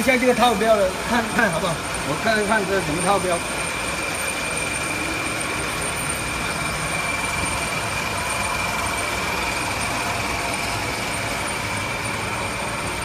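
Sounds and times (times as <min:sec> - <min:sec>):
high-pitched machine whine: 0:00.0 - 0:13.0
labeling machine running: 0:00.0 - 0:13.0.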